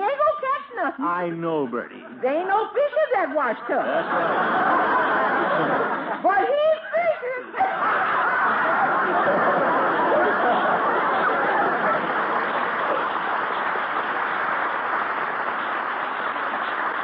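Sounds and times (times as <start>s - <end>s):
studio audience laughing: 2.8s - 17.0s.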